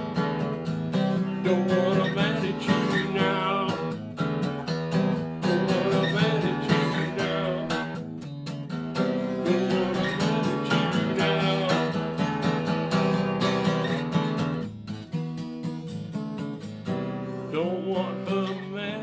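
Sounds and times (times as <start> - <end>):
acoustic guitar strummed: 0.0 - 19.0.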